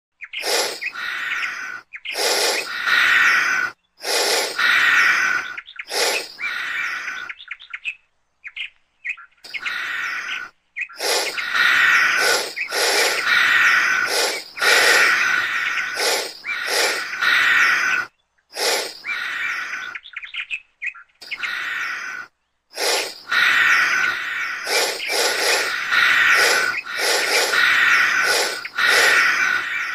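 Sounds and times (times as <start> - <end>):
bird-like chirping calls: 0.2 - 29.9.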